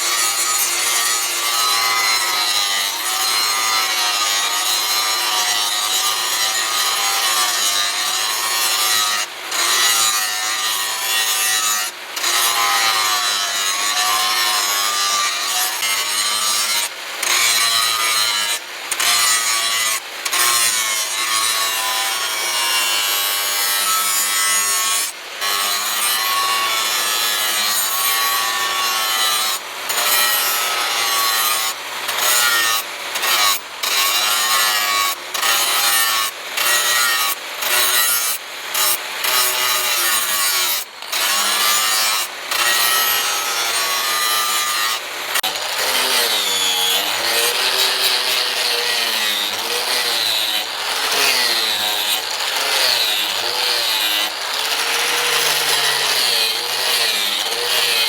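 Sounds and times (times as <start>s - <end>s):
power grinding tool running: 0.0s - 58.0s.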